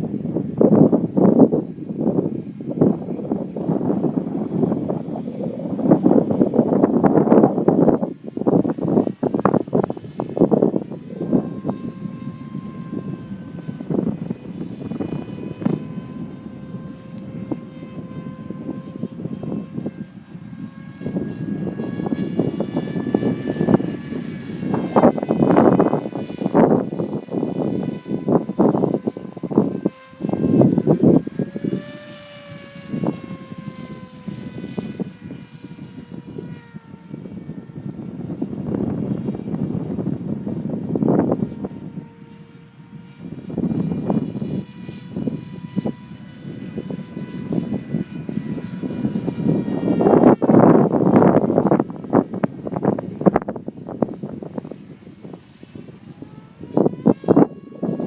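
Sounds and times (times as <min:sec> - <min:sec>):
electric motor and propeller whine: 0:00.0 - 0:58.0
wind gusts on microphone: 0:00.0 - 0:58.0.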